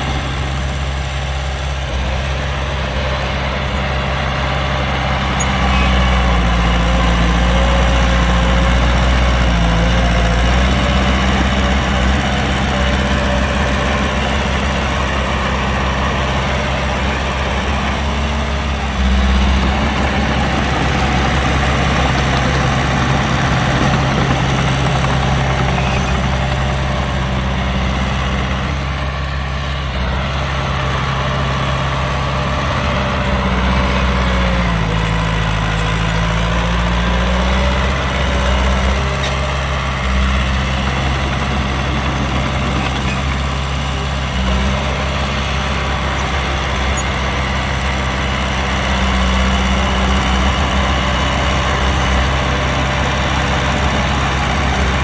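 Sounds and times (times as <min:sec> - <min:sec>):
heavy diesel engines rumbling: 0:00.0 - 0:55.0.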